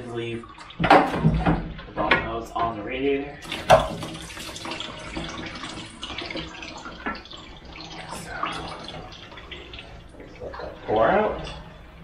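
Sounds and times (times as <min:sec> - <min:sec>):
liquid trickling into a pan: 0:00.0 - 0:12.0.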